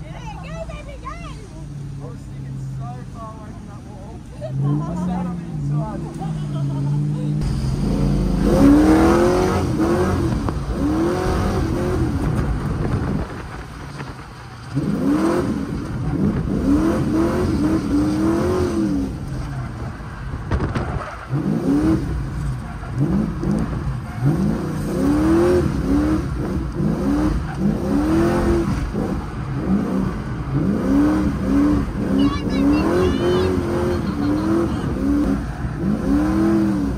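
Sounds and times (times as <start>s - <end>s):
car engine revving hard: 4.4s - 13.7s, 14.6s - 36.9s.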